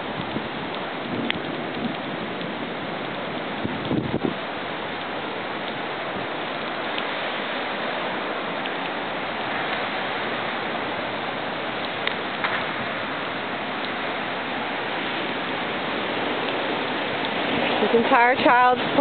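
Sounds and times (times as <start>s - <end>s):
floodwater rushing: 0.0s - 19.0s
heavy rain: 0.0s - 19.0s.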